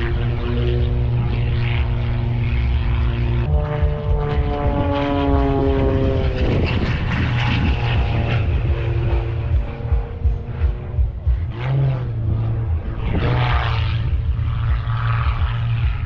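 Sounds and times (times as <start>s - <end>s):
plane passing with falling pitch: 0.0s - 16.0s
propeller plane engine: 0.0s - 16.0s.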